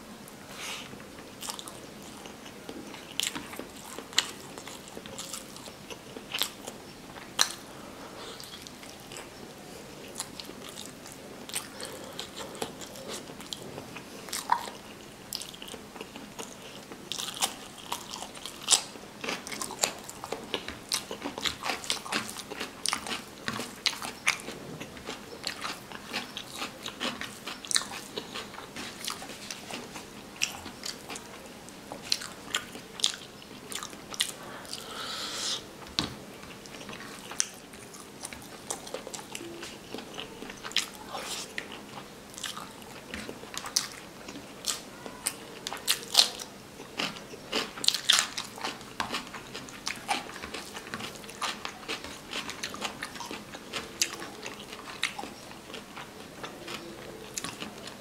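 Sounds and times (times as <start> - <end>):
person chewing with wet mouth sounds: 0.6 - 58.0.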